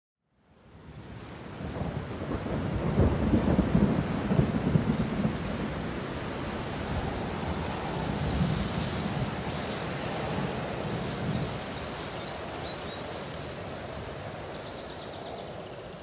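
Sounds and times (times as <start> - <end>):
steady rain: 0.3 - 16.0
thunder rumbling: 1.6 - 14.6.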